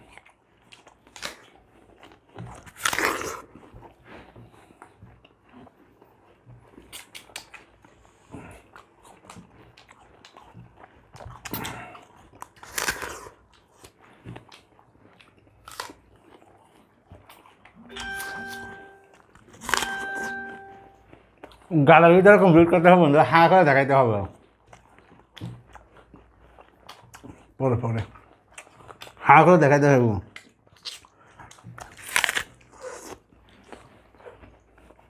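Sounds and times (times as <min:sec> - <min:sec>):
people biting and chewing mangoes: 0:00.0 - 0:35.0.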